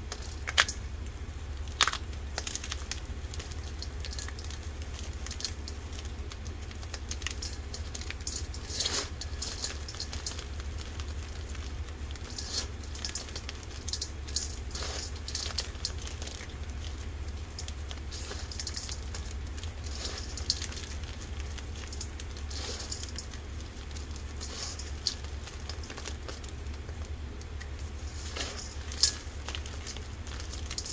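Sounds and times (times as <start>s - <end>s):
chalk crunching in metal bowl: 1.7s - 30.9s.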